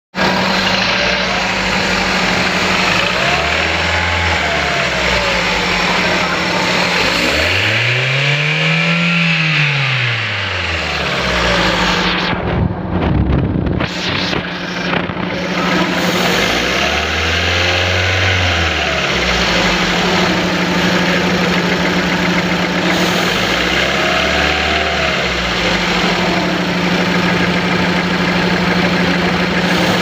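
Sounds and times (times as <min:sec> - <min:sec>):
misfiring engine revving: 0:00.2 - 0:30.0.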